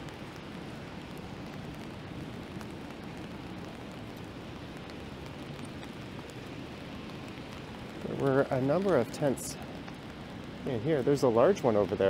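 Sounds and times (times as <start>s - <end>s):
low steady rumble: 0.0s - 12.0s
raindrops ticking on umbrella: 0.0s - 12.0s
steady rain falling: 0.0s - 12.0s.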